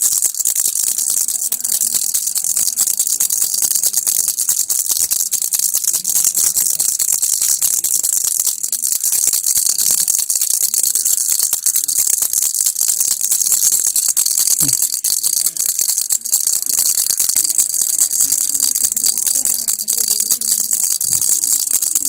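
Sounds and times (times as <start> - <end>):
baby rattle shaken: 0.0 - 22.0.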